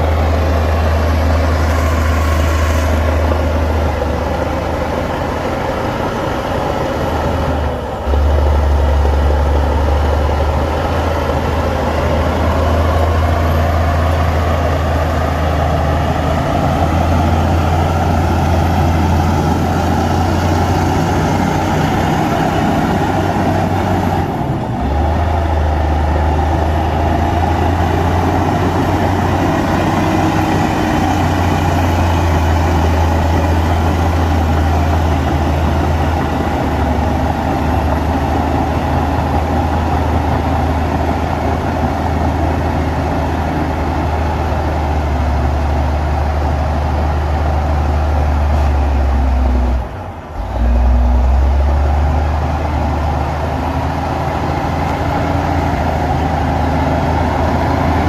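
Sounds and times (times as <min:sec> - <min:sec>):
heavy diesel machinery engine hum: 0:00.0 - 0:58.0.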